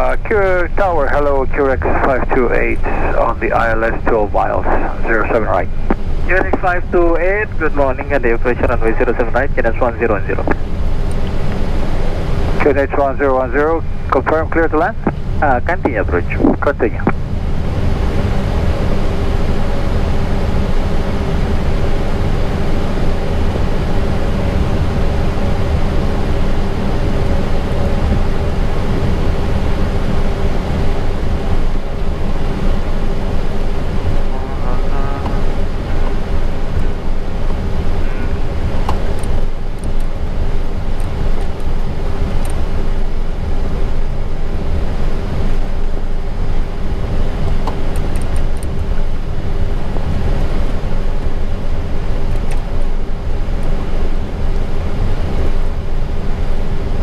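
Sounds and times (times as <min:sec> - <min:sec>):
jet engines idling roar: 0:00.0 - 0:57.0
steady hum: 0:00.0 - 0:57.0.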